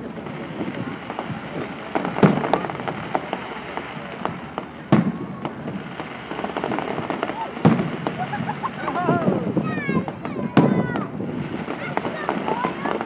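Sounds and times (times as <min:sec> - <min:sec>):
firework pops and crackles: 0:00.0 - 0:13.0.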